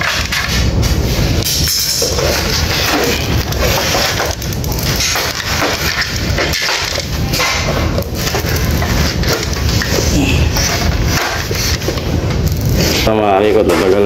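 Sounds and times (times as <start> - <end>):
plastic casing scraping and cracking: 0.0 - 13.1.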